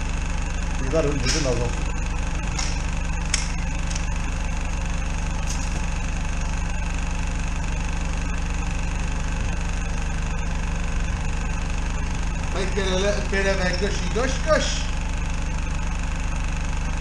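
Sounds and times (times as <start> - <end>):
engine low-pitched hum: 0.0 - 17.0.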